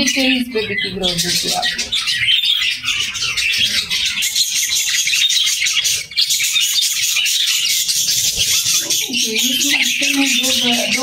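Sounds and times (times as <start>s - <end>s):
budgerigars chirping and chattering: 0.0s - 11.0s.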